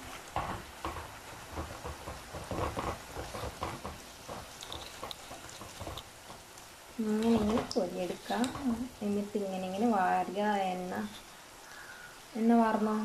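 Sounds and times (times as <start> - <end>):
spoon scraping pan: 0.0 - 11.8
fries sizzling in hot oil: 0.0 - 13.0.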